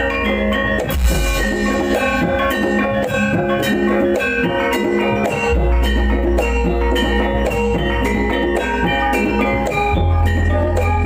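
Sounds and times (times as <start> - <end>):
drums: 0.0 - 11.0
struck metallophones melody: 0.0 - 11.0.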